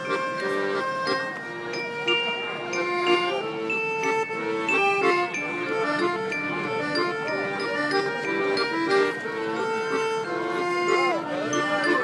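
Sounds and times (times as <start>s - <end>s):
instrumental tune: 0.0s - 12.0s.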